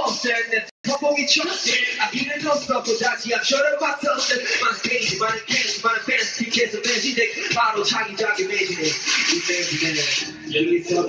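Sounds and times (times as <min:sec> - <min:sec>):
hip-hop backing track: 0:00.0 - 0:11.0
man rapping into a microphone: 0:00.0 - 0:11.0.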